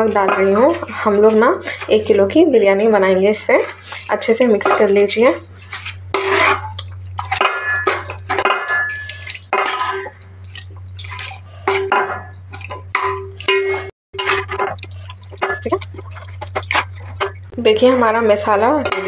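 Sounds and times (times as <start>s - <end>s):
spoon stirring thick marinade: 0.0s - 19.0s
steady low hum: 0.0s - 19.0s.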